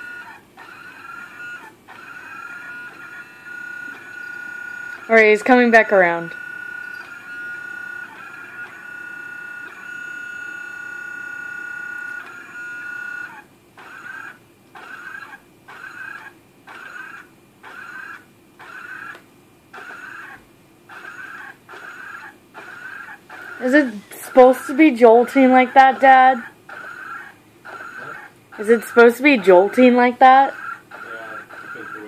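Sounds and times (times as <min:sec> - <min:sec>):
robot vacuum motors whining: 0:00.0 - 0:32.0.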